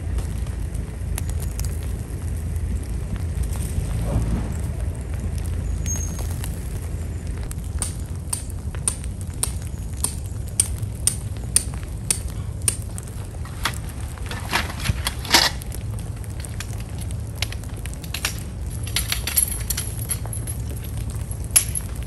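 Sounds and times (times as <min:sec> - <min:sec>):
steady low rumble: 0:00.0 - 0:22.0
tent poles and fabric crunching on snow: 0:00.0 - 0:22.0.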